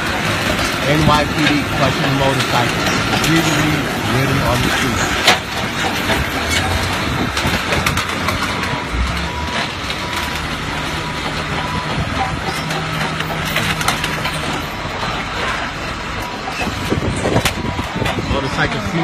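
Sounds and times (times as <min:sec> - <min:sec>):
metal bodywork crunching and cracking: 0:00.0 - 0:18.4
machine engine hum: 0:00.0 - 0:19.0.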